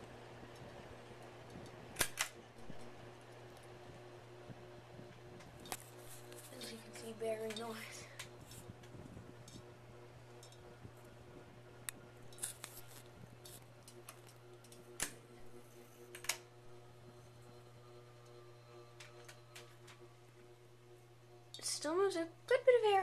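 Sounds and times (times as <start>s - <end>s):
ceiling fan motor humming: 0.0s - 23.0s.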